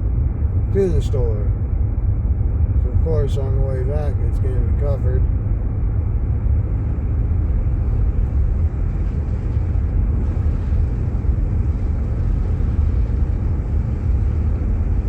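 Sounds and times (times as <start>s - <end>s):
car engine rumble: 0.0s - 15.0s
tyre noise on snowy road: 2.4s - 15.0s.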